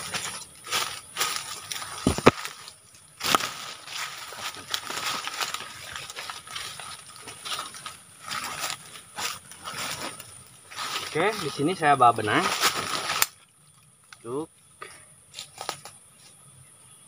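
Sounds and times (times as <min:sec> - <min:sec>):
dry leaves crackling: 0:00.0 - 0:14.4, 0:15.3 - 0:16.0.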